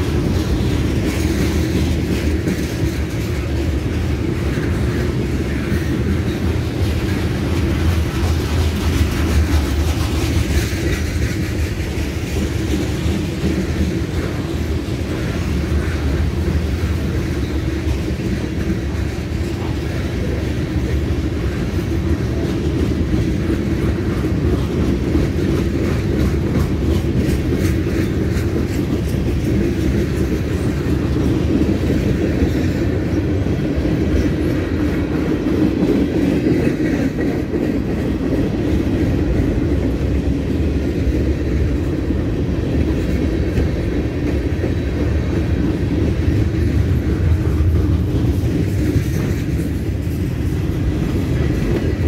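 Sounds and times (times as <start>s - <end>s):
steel wheels rumbling on rail: 0.0s - 52.0s
wheels clicking and clattering: 0.0s - 52.0s.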